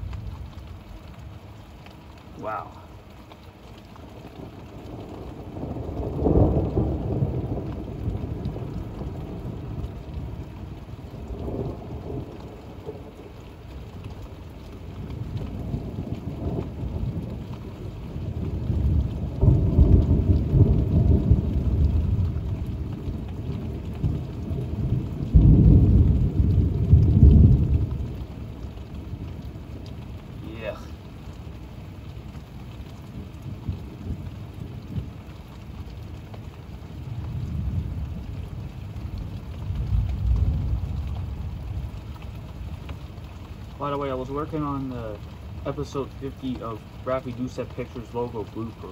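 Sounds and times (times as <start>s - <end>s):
steady rain: 0.0s - 48.9s
thunder rumbling: 4.1s - 48.9s.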